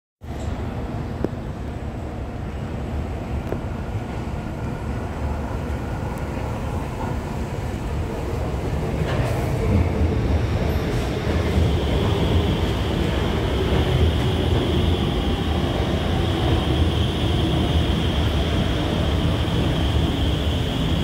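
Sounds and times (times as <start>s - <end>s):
train wheels rumbling on rails: 0.2s - 21.0s.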